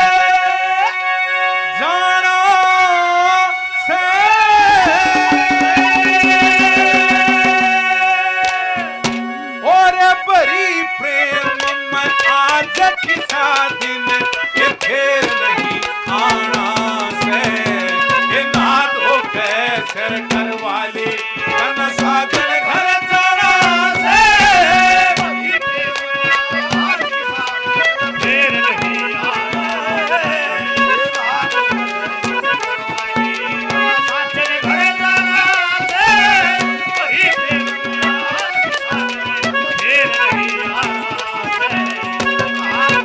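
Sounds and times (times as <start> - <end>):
harmonium drone and melody: 0.0 - 43.0
hand drums beating: 4.5 - 43.0.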